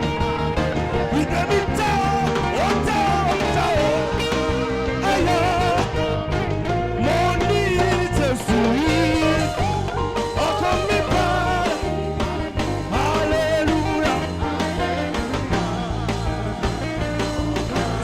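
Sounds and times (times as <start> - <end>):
gospel band accompaniment: 0.0 - 18.0
saxophone lead melody: 0.0 - 18.0
sustained bass notes: 0.0 - 18.0.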